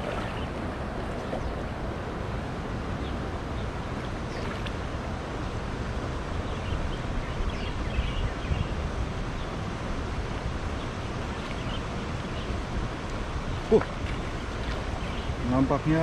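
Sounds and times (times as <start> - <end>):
water moving around wading person: 0.0 - 6.4, 9.1 - 16.0
wind noise on microphone: 0.0 - 16.0.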